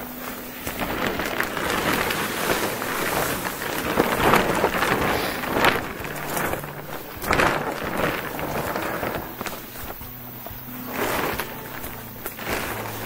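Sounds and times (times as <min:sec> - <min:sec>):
crackling rustling handling noise: 0:00.0 - 0:13.0.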